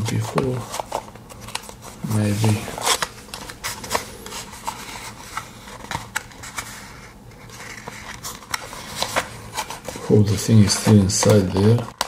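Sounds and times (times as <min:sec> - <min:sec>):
packaging rubbing: 0:00.0 - 0:12.0.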